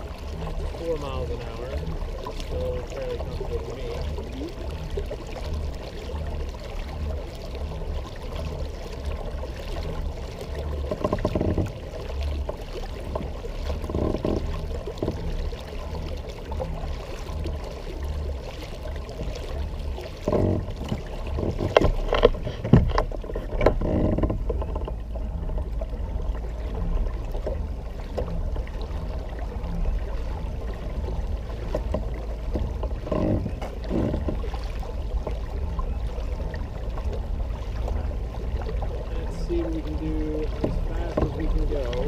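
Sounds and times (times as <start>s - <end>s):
low uneven rumble: 0.0s - 42.0s
water gurgling along kayak hull: 0.0s - 42.0s.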